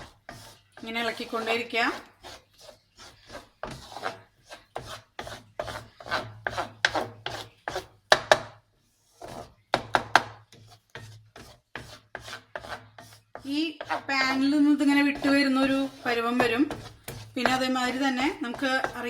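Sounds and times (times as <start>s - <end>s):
spatula scraping a pan: 0.0s - 19.0s.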